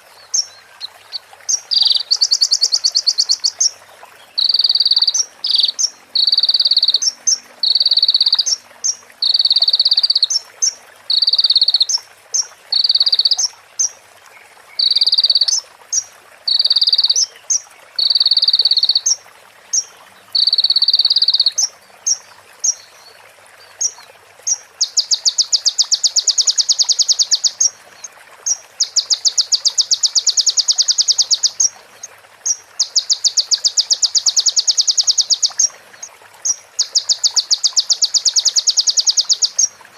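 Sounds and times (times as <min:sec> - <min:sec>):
rapid rattling bird trills: 0:00.0 - 0:03.8, 0:04.4 - 0:14.0, 0:14.8 - 0:22.8, 0:23.8 - 0:31.8, 0:32.4 - 0:39.8
bird singing buzzy phrases: 0:00.1 - 0:12.1, 0:14.7 - 0:22.8, 0:23.8 - 0:31.8, 0:32.4 - 0:39.9.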